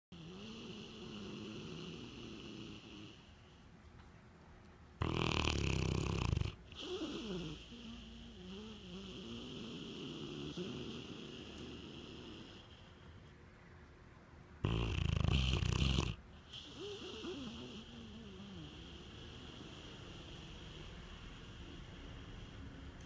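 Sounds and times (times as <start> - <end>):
dog snoring: 0.1 - 3.3, 5.0 - 12.9, 14.6 - 22.6.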